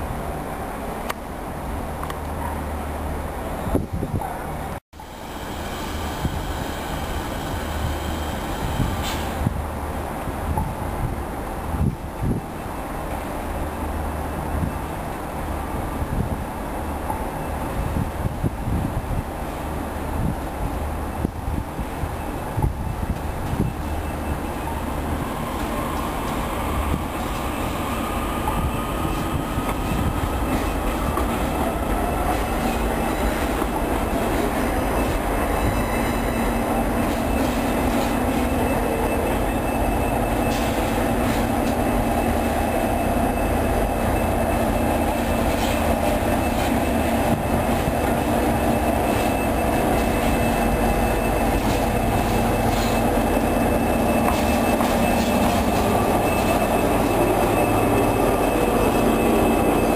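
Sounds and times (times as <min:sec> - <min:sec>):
diesel locomotive engine passing: 0:04.4 - 0:59.9.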